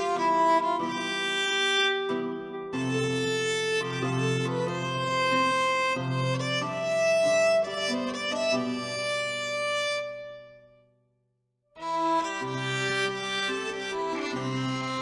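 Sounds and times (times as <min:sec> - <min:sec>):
instrumental background music: 0:00.0 - 0:10.6, 0:11.8 - 0:15.0.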